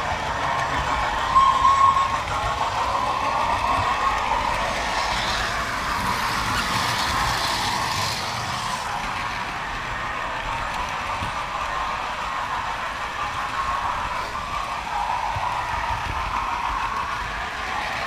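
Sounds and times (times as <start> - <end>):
model train wheels rattling: 0.0 - 18.0.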